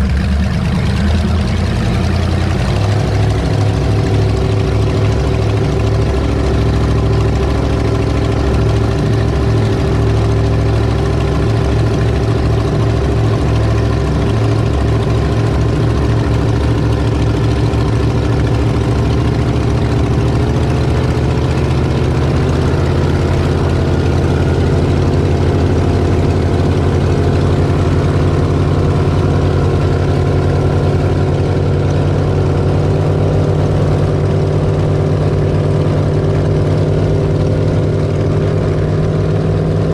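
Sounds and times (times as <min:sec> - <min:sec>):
power boat engines running: 0:00.0 - 0:39.9.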